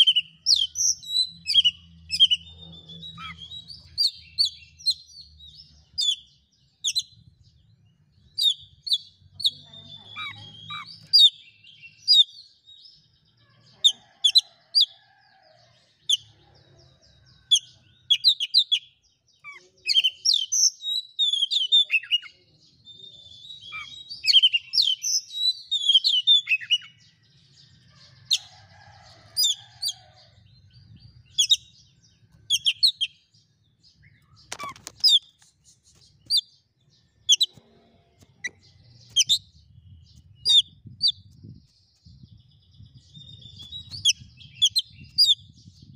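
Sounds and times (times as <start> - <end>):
bird singing: 0.0 - 45.9.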